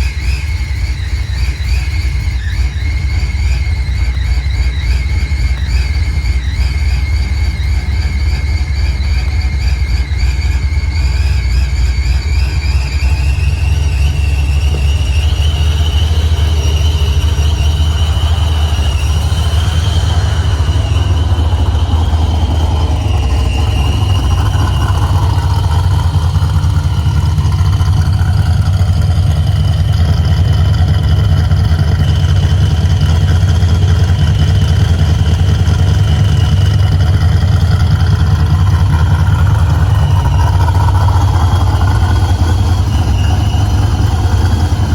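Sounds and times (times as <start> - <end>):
car engine idling: 0.0 - 44.9
thin high engine whine: 0.0 - 44.9.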